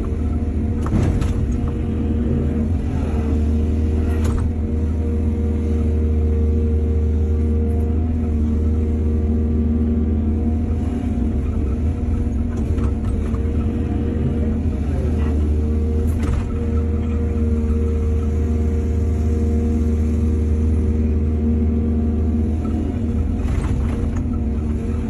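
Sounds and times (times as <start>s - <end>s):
heavy diesel engine humming: 0.0s - 25.0s.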